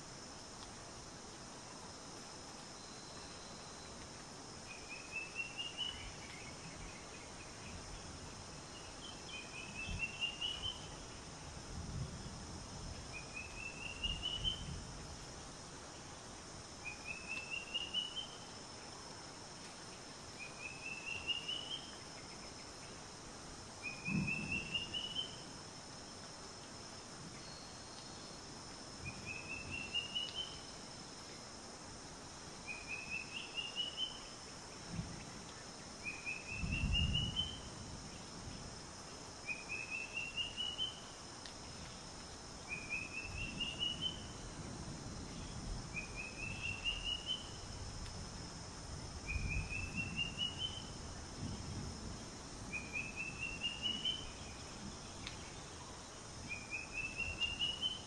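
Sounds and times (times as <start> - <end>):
insect hiss: 0.0 - 58.0.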